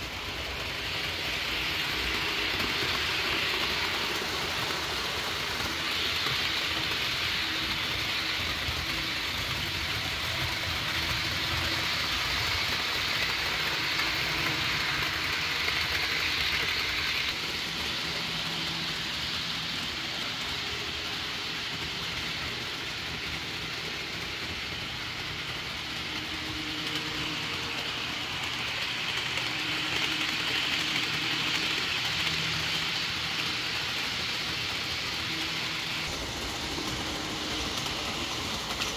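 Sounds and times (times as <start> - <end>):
model train wheels on rails: 0.0 - 38.9.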